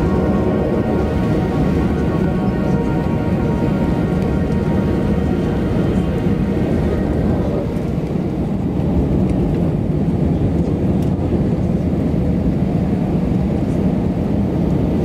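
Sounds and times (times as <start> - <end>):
aircraft cabin engine noise: 0.0 - 15.0.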